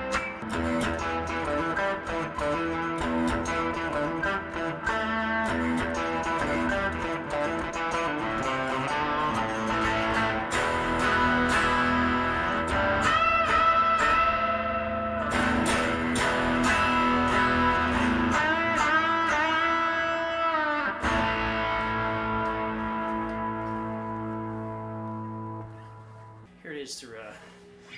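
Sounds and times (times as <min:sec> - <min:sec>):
overdriven electric guitar lead: 0:00.0 - 0:26.4
ringing guitar chord: 0:00.0 - 0:26.4.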